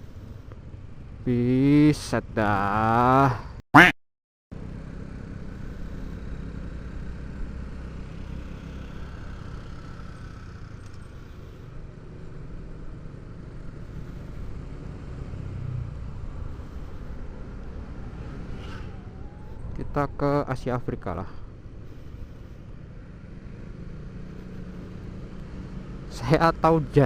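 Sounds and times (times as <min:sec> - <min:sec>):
low wind: 0:00.0 - 0:03.6, 0:04.6 - 0:27.0
road rumble: 0:00.0 - 0:03.6, 0:04.5 - 0:27.0
motorcycle engine cruising: 0:04.5 - 0:27.0.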